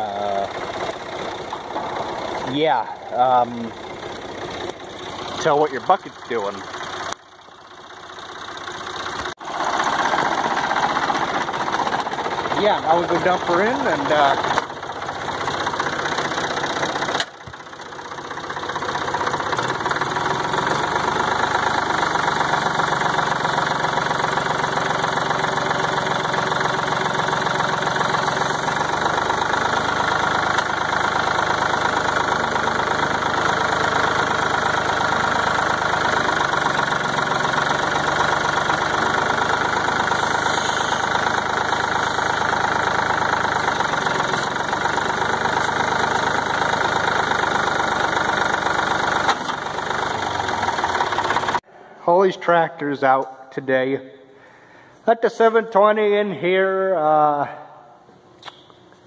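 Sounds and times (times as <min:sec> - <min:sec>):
tractor engine running: 0:00.0 - 0:51.6.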